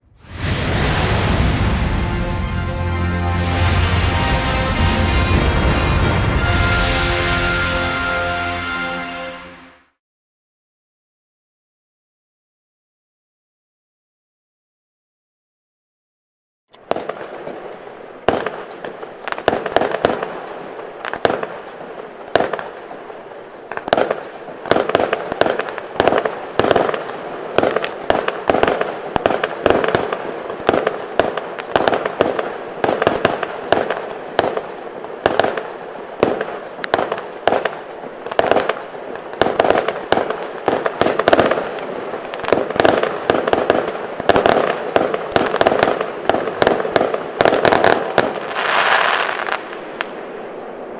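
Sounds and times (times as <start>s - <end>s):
fireworks bangs: 0.0s - 9.7s, 16.8s - 50.9s
fireworks crackling: 0.0s - 9.8s, 16.8s - 50.9s.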